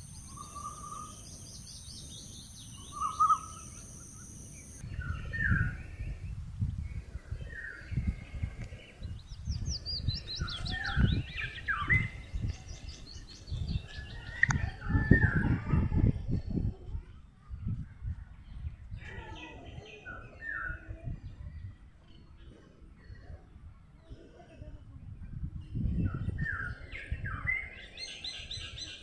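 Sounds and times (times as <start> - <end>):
birds chirping and singing: 0.0 - 16.8, 17.6 - 23.4, 25.6 - 29.0.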